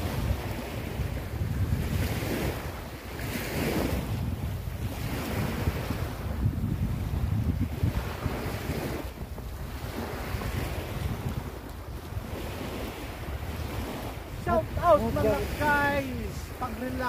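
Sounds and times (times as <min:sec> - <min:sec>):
small waves washing on shore: 0:00.0 - 0:17.0
wind buffeting microphone: 0:00.0 - 0:17.0.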